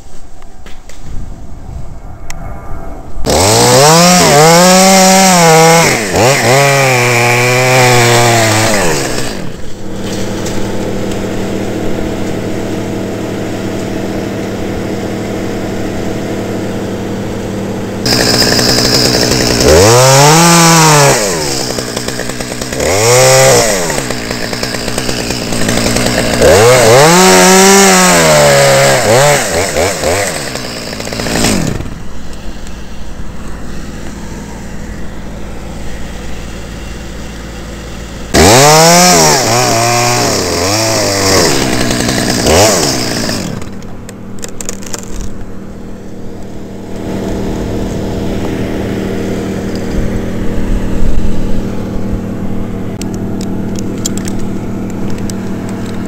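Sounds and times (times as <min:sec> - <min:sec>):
chainsaw revving and idling: 0:03.2 - 0:56.0.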